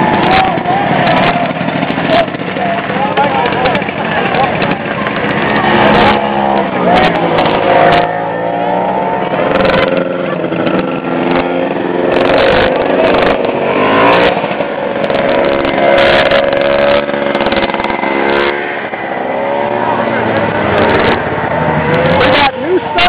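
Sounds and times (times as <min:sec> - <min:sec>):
snowmobile engines idling: 0:00.0 - 0:23.0.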